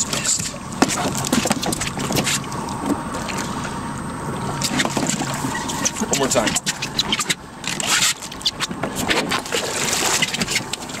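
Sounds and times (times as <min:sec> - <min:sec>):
water splashing against hull: 0:00.0 - 0:11.0.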